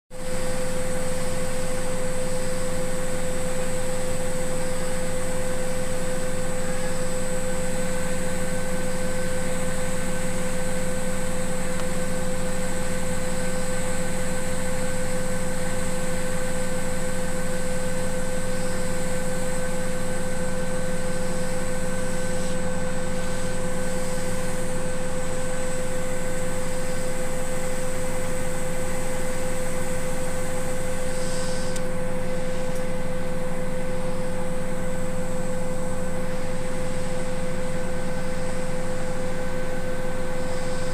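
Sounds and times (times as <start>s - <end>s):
washing machine motor whine: 0.1s - 40.9s.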